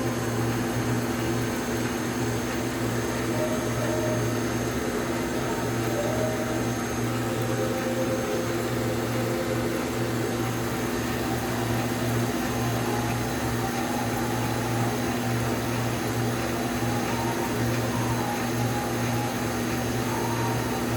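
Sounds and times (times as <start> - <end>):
machine motor hum: 0.0 - 20.9.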